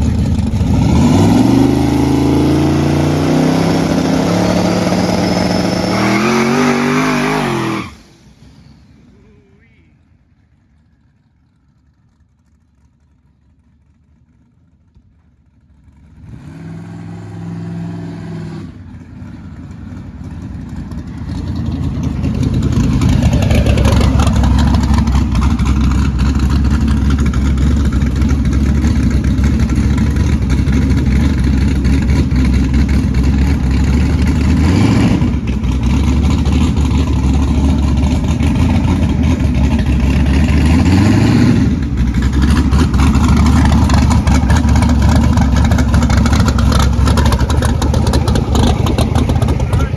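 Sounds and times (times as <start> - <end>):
car engine revving: 0.0 - 8.3, 15.9 - 49.9.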